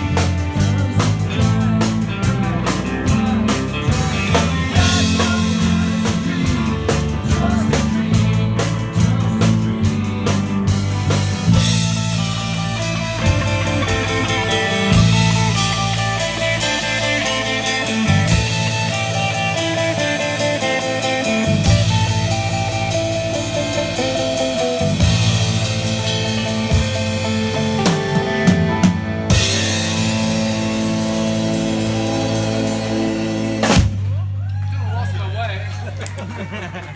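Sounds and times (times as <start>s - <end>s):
drum kit: 0.0s - 34.4s
band playing live: 0.0s - 36.9s
guitar: 0.0s - 36.9s.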